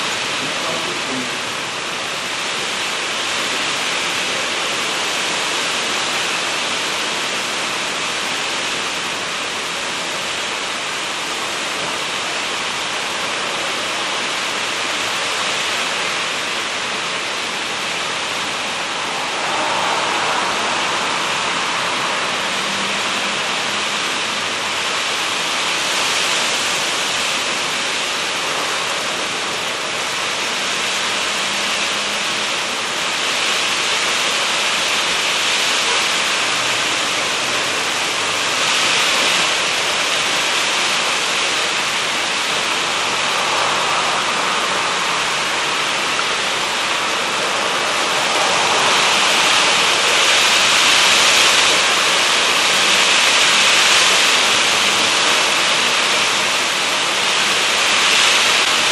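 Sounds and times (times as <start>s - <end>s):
gusting wind: 0.0s - 58.9s
heavy rain: 0.0s - 58.9s.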